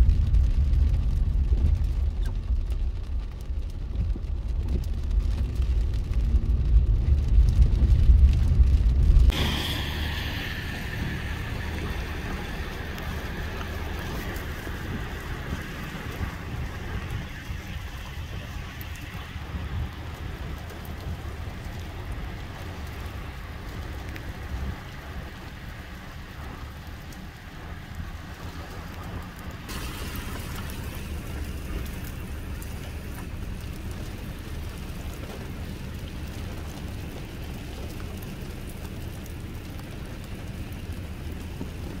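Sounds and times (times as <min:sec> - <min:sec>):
freezing rain hissing: 0:00.0 - 0:42.0
low rumble: 0:00.0 - 0:42.0.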